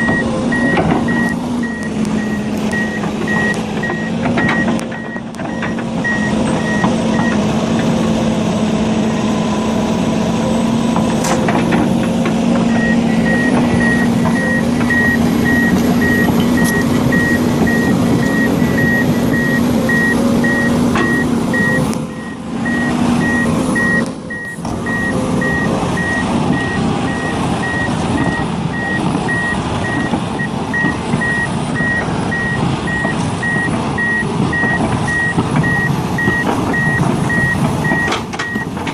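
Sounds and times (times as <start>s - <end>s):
reversing alarm beeping: 0.0s - 7.4s, 12.7s - 38.8s
heavy machine engine running: 0.0s - 38.9s.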